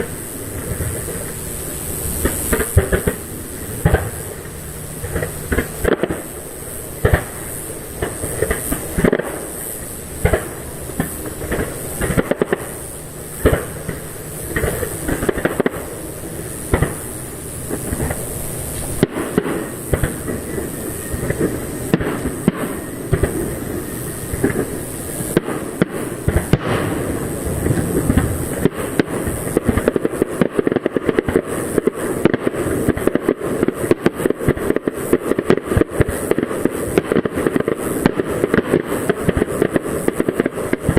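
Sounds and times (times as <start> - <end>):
fireworks bursting with booms: 0.0 - 40.9.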